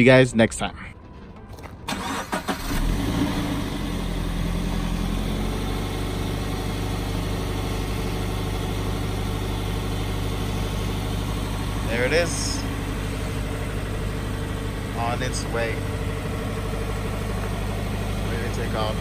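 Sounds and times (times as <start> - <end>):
car engine starting and idling: 1.0 - 19.0.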